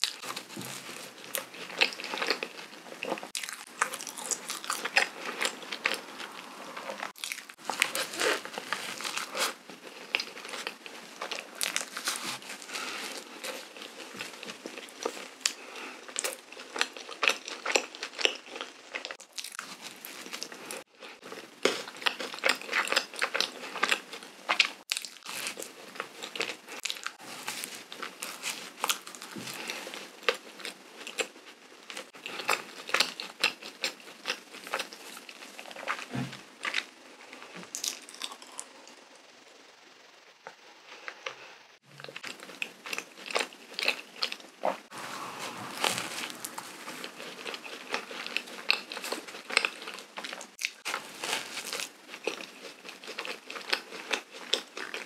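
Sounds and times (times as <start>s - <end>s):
chewing soft donut: 0.0s - 39.4s, 40.3s - 55.0s.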